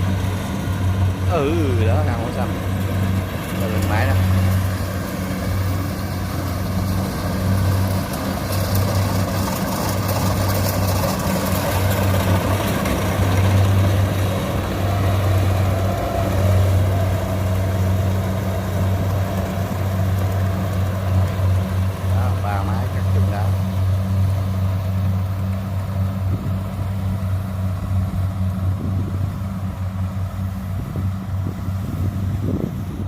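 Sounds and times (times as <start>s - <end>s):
combine harvester engines droning: 0.0s - 33.0s.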